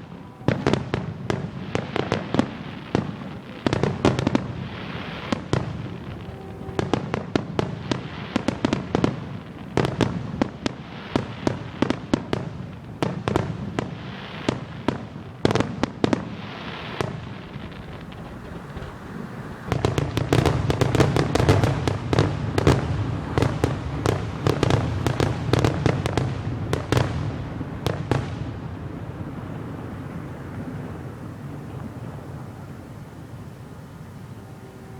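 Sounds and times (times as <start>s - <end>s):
fireworks bangs and crackles: 0.0s - 33.8s.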